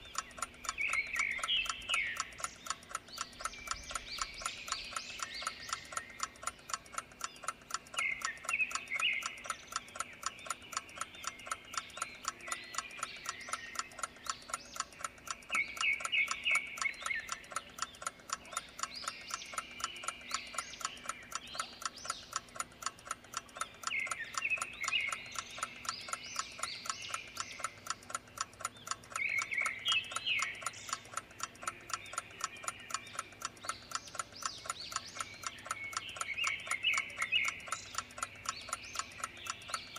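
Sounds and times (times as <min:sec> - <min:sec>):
clock ticking: 0:00.0 - 0:39.9
trilled animal chirps: 0:00.0 - 0:39.9.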